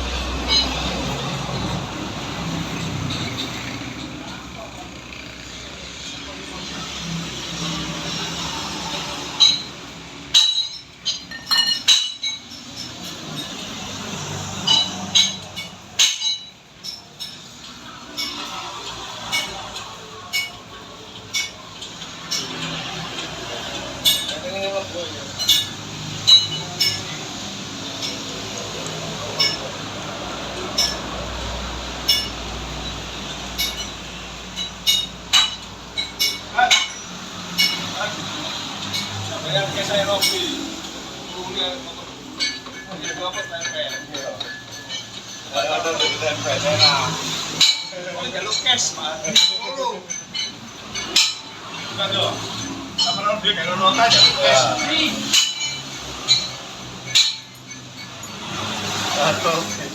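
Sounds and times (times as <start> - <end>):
metal tools clinking: 0.1 - 6.2, 9.2 - 59.9.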